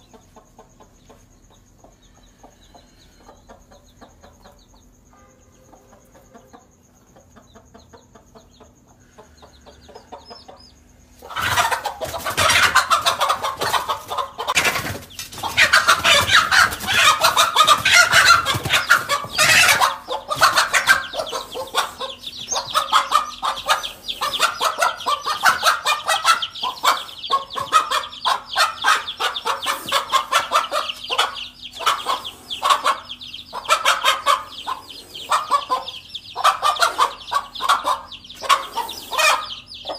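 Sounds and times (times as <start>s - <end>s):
hen clucking and squawking: 7.3s - 39.9s.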